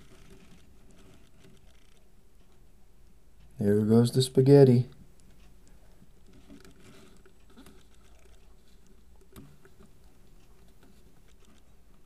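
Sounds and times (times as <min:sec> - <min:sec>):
faint ticks and rustles: 0:00.0 - 0:12.0
low steady hum: 0:00.0 - 0:12.0.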